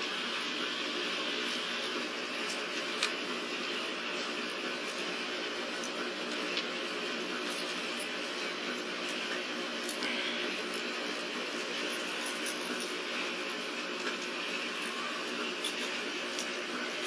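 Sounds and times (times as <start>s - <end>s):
dryer humming: 0.0s - 17.0s.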